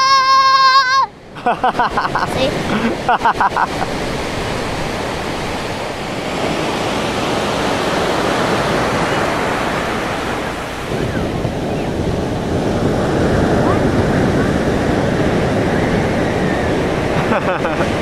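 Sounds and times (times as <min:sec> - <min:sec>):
ocean surf rushing onto beach: 0:00.0 - 0:18.0.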